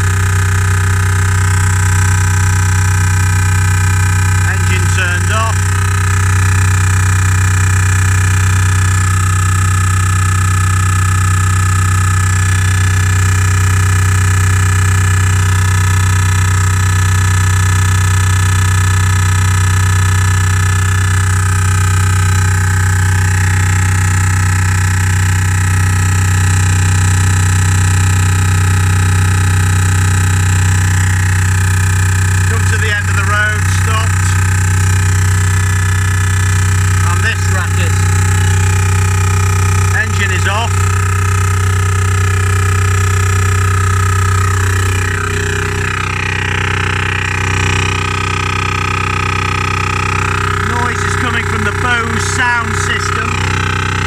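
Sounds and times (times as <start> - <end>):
high whine: 0.0 - 17.6, 18.2 - 54.0
drilling-like drone from speakers: 0.0 - 54.0.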